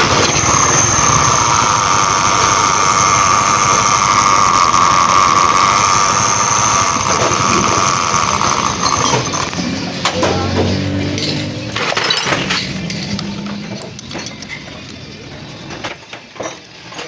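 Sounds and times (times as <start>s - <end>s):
motorcycle engine running: 0.0s - 15.6s
steady high whine: 0.0s - 17.0s.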